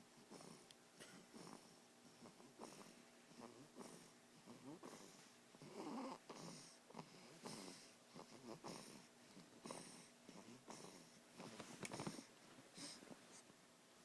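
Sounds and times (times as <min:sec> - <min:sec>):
toddler snoring softly: 0:00.1 - 0:13.5.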